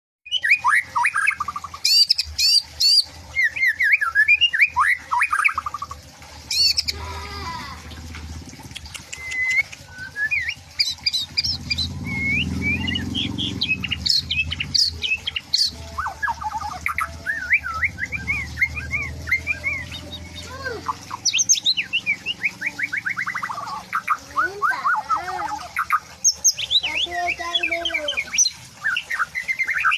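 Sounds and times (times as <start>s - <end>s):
bird whistling song: 0.3s - 6.9s, 8.8s - 29.9s.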